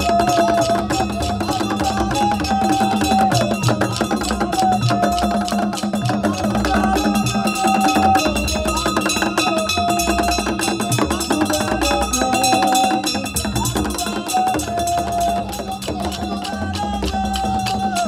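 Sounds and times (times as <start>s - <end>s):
wooden drums in fast rhythm: 0.0s - 18.0s.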